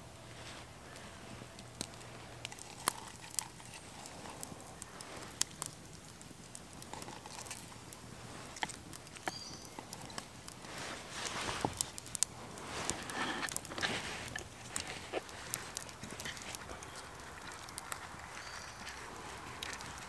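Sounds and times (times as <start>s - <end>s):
soft rustling of leaves: 0.0s - 20.0s.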